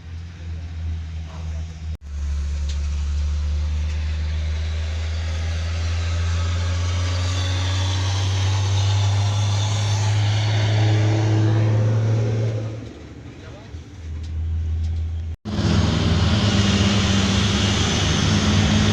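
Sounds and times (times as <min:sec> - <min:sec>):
drill rig engine droning: 0:02.0 - 0:18.9.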